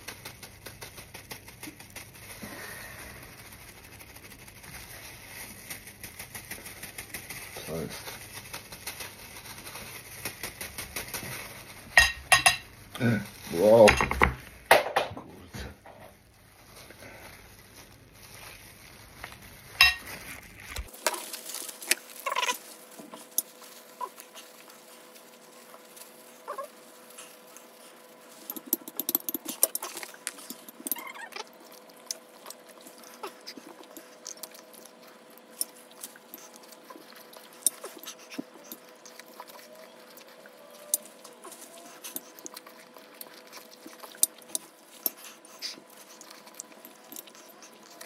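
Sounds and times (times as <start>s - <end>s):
plastic gloves crinkling: 0.0s - 14.7s, 15.7s - 48.0s.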